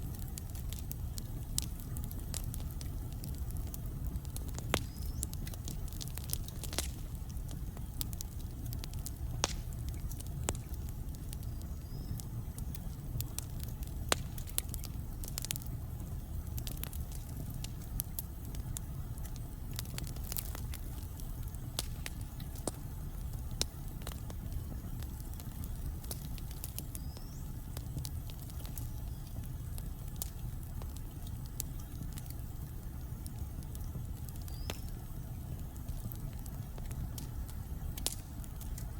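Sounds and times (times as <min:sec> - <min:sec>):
logs burning in a fireplace: 0:00.0 - 0:38.9.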